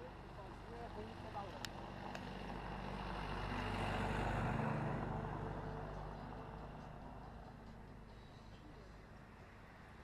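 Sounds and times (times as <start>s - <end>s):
vehicle passing by: 1.8s - 10.0s.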